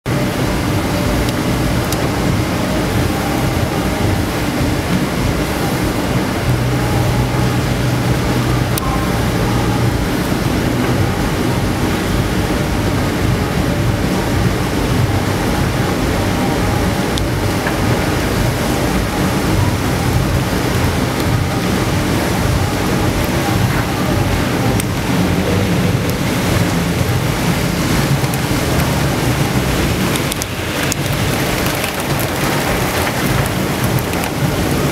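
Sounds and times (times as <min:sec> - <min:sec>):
raindrops ticking: 0:00.0 - 0:34.9
strong wind on microphone: 0:00.0 - 0:34.9
rain hissing: 0:00.1 - 0:34.9.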